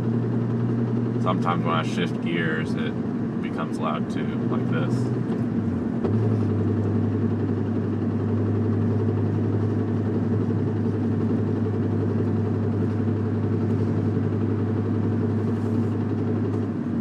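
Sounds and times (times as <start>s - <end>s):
car engine pulling in gear: 2.6s - 16.9s.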